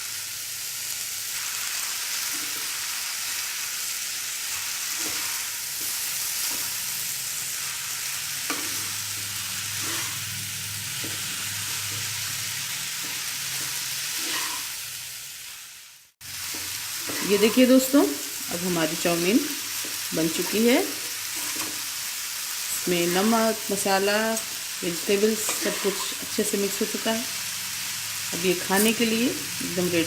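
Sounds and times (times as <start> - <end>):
noodles sizzling in hot oil: 0.0 - 30.0.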